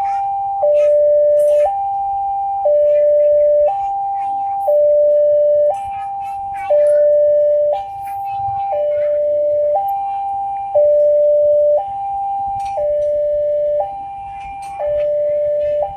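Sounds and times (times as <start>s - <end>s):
level crossing two-tone alarm: 0.0s - 15.9s.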